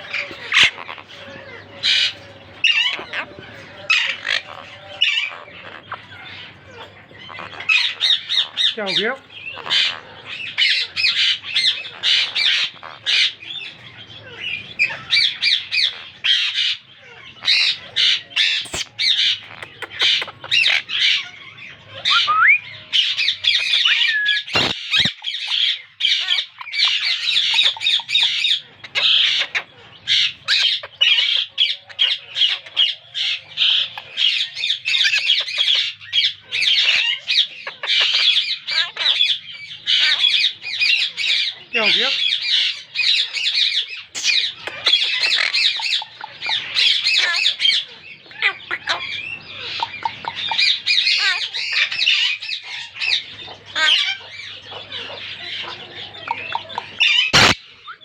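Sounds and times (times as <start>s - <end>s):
parakeets squawking: 0.0s - 58.0s.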